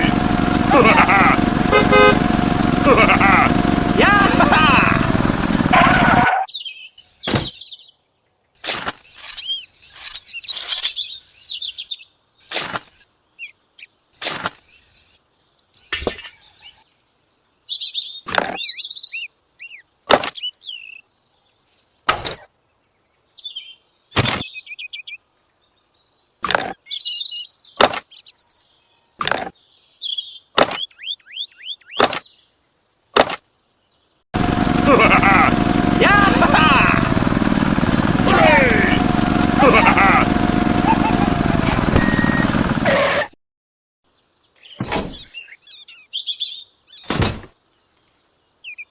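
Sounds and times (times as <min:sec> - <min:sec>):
small birds chirping: 0:00.0 - 0:42.8, 0:44.1 - 0:48.9.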